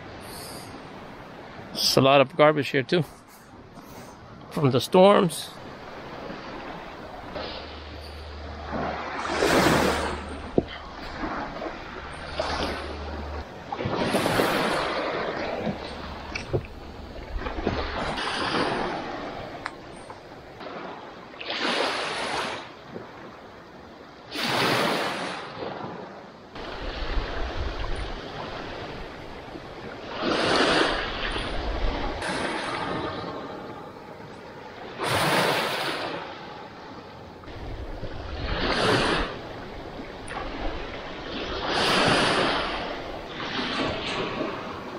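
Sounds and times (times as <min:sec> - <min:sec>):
waves washing onto sand: 0:00.0 - 0:23.4, 0:24.2 - 0:44.9
wind gusts on microphone: 0:00.0 - 0:23.4, 0:24.3 - 0:44.9.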